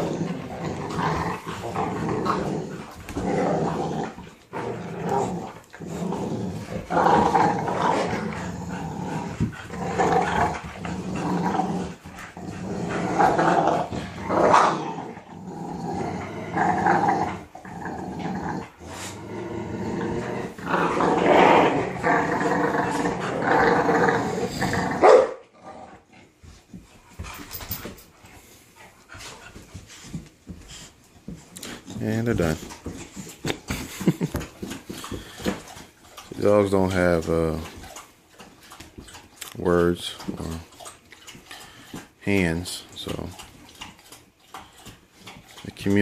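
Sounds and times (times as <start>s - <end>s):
dogs growling: 0.0s - 46.0s.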